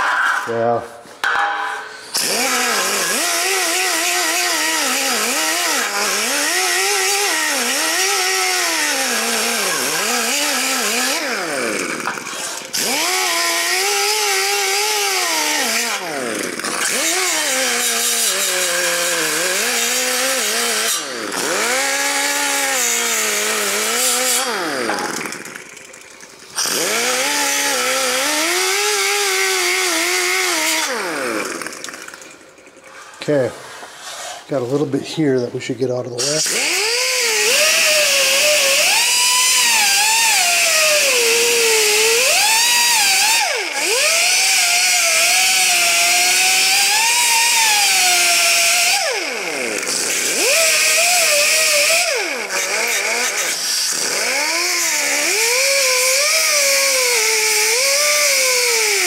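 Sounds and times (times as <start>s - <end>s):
pneumatic cutting disc grinding steel: 0.0s - 34.8s, 36.1s - 59.0s.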